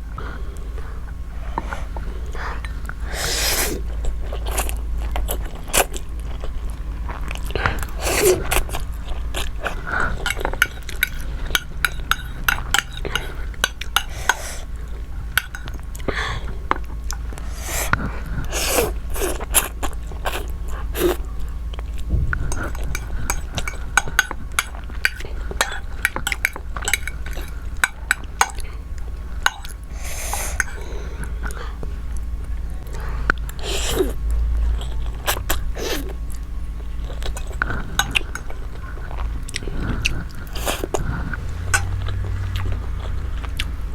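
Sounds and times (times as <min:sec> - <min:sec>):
steady low hum: 0:00.0 - 0:43.9
chewing and biting: 0:03.8 - 0:43.9.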